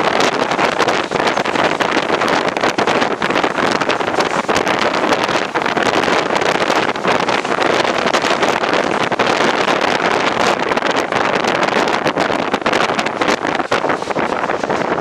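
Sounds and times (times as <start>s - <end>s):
train running at speed: 0.0s - 15.0s
wind buffeting microphone: 0.0s - 15.0s.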